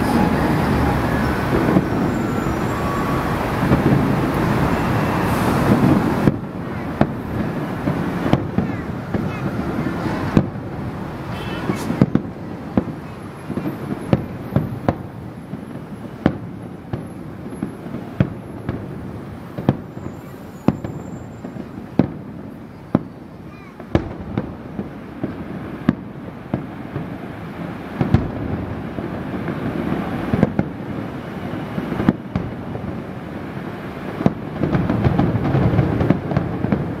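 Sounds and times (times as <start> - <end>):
continuous rumbling from fireworks: 0.0 - 37.0
fireworks bursting with sharp bangs: 0.0 - 37.0.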